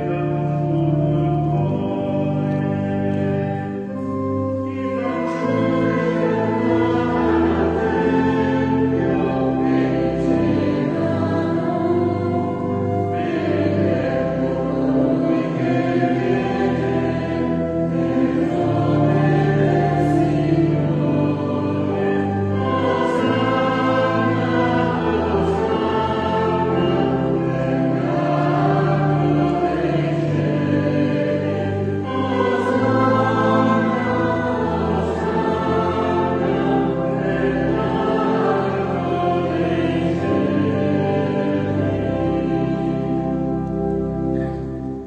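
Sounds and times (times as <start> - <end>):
church choir singing a hymn: 0.0 - 45.0
held low accompanying notes: 0.0 - 45.0.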